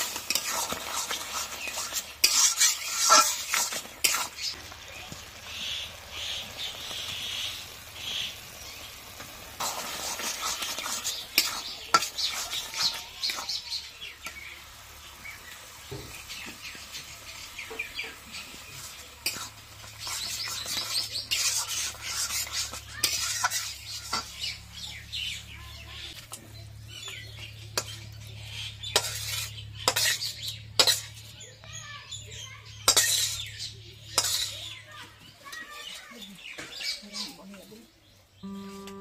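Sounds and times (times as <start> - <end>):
spoon stirring thick mash: 0.0 - 5.6, 9.1 - 14.5, 15.2 - 31.4, 32.8 - 37.7.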